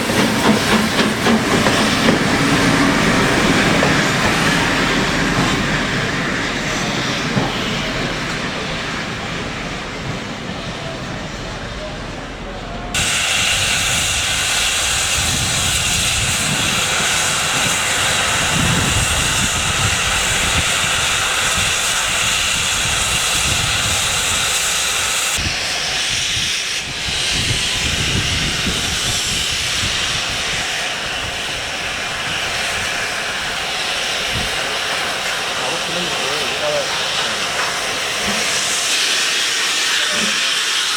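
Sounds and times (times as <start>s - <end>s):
steam locomotive hissing steam: 0.0s - 40.9s.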